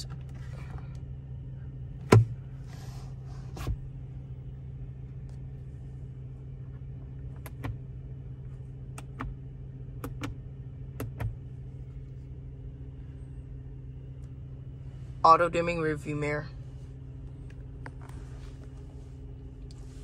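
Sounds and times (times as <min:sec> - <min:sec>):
low cabin hum: 0:00.0 - 0:20.0.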